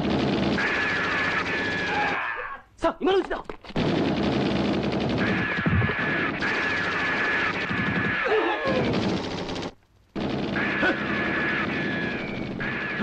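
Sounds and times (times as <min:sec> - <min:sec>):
cartoon machine-gun fire: 0:00.0 - 0:02.2, 0:03.8 - 0:13.0.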